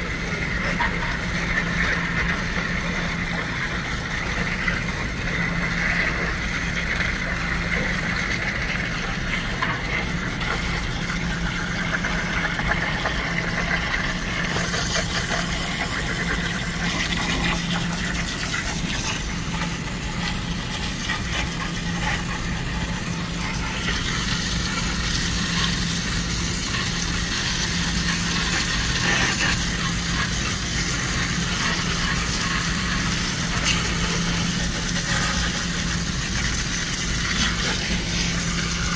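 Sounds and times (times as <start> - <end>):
hose spraying water on metal fins: 0.0 - 38.9
low machine hum: 0.0 - 38.9.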